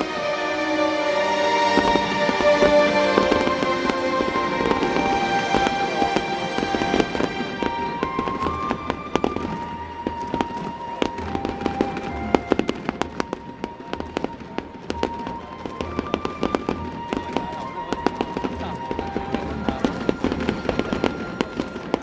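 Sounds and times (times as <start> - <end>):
fireworks crackling and popping: 0.0 - 22.0
music playing: 0.0 - 22.0.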